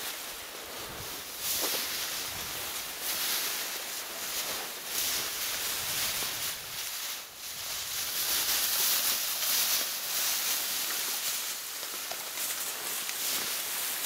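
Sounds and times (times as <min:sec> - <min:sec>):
dry grass rustling: 0:00.0 - 0:14.0.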